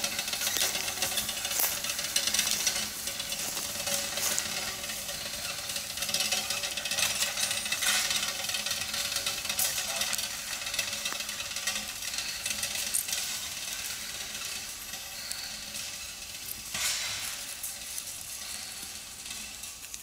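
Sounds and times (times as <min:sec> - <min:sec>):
plough and harness clicks: 0:00.0 - 0:20.0
plough rustling through leaf litter: 0:00.0 - 0:20.0.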